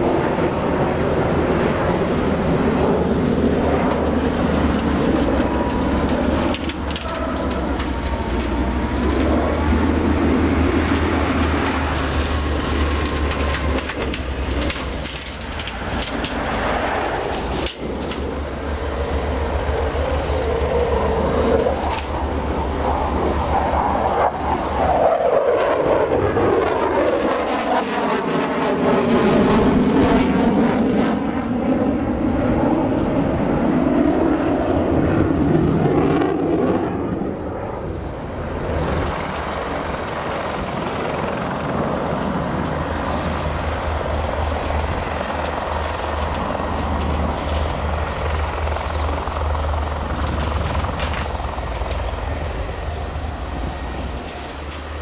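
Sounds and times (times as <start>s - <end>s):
fighter jet engines roaring: 0.0s - 55.0s.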